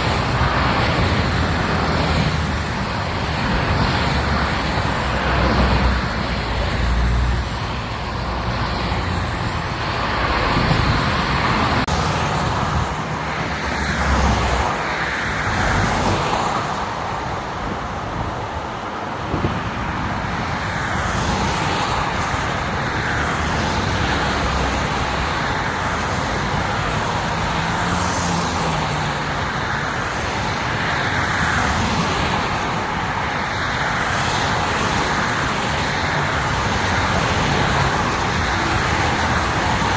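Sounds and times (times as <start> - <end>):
highway traffic: 0.0 - 39.9
vehicles passing: 0.0 - 39.9.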